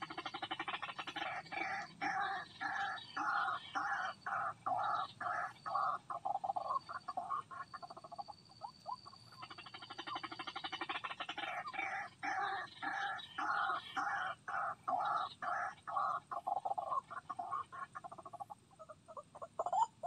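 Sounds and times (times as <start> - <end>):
harsh bird calls: 0.0 - 20.0.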